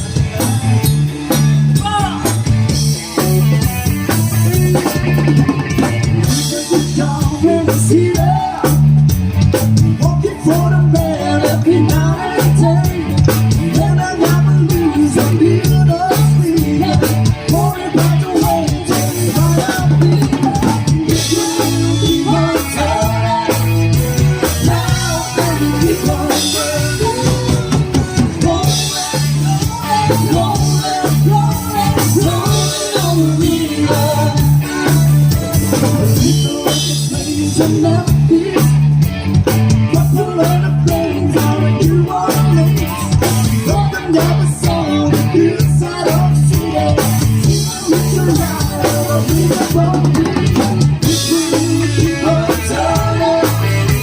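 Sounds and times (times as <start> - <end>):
live pop-rock band music: 0.0 - 54.0.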